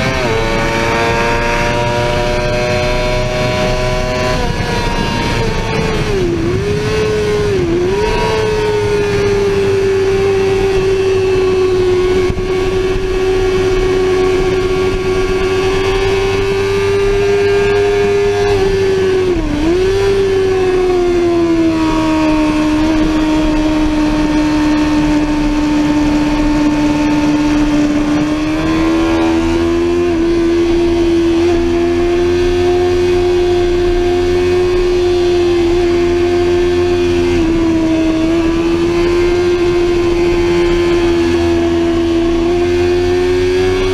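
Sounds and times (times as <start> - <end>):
motorcycle engine at high revs: 0.0 - 43.9.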